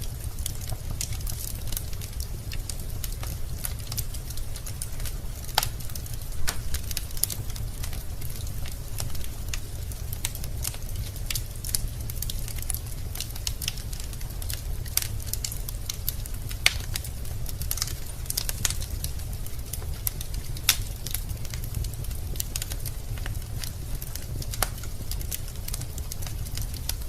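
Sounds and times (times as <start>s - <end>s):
fire rumbling: 0.0s - 27.0s
logs crackling: 0.0s - 27.0s
loud fire pops: 0.0s - 27.0s.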